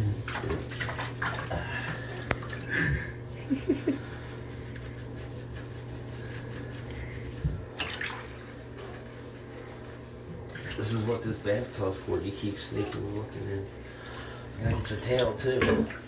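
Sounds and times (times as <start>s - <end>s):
water sloshing and dripping: 0.0s - 3.4s, 5.6s - 16.0s
steady low hum: 0.0s - 16.0s.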